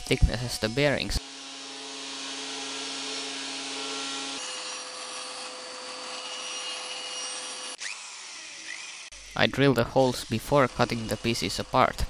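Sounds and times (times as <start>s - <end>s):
jointer planer cutting wood: 0.0s - 9.4s, 10.0s - 12.0s
bandsaw cutting wood: 0.0s - 12.0s.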